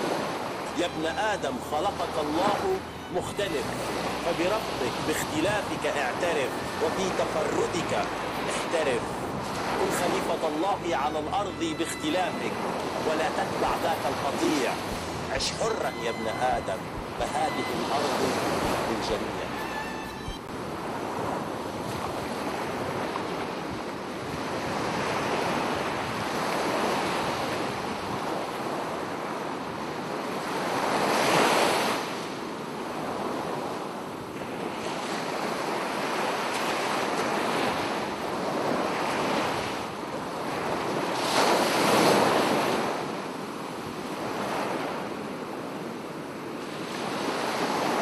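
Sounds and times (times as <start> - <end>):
ocean waves washing in: 0.0 - 48.0.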